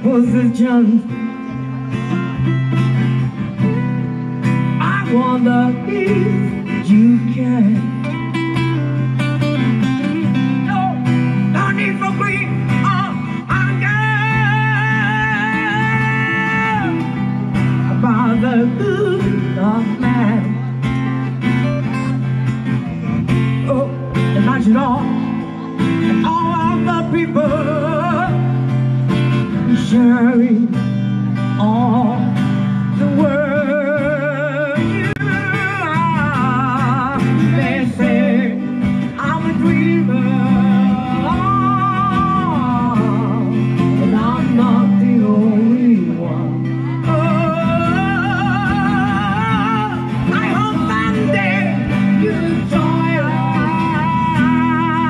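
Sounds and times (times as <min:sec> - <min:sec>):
person singing with vibrato: 0:00.0 - 0:02.1, 0:03.0 - 0:21.6, 0:23.5 - 0:55.0
acoustic guitar: 0:00.0 - 0:55.0.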